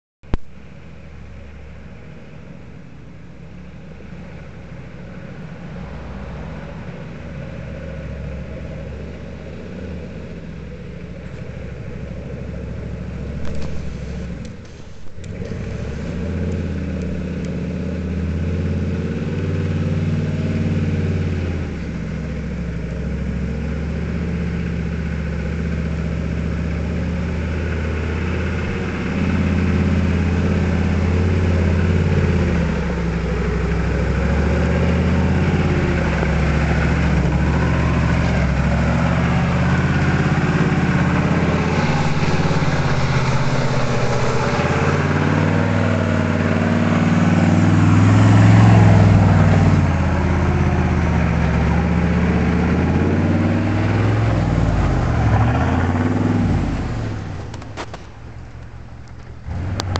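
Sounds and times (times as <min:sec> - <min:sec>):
diesel truck engine climbing hill: 0:00.2 - 0:59.9.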